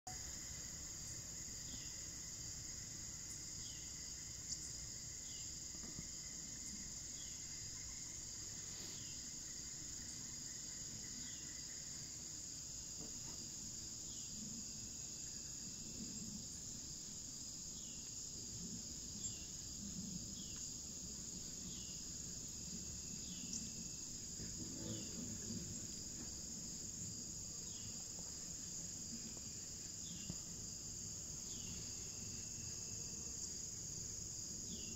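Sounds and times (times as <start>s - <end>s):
insect chorus trilling: 0.1s - 34.9s.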